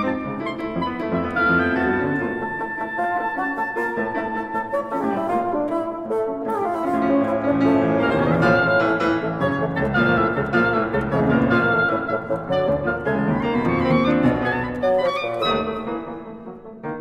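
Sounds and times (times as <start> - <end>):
oboe: 0.0 - 16.6
bassoon: 0.0 - 17.0
piano: 0.0 - 17.0.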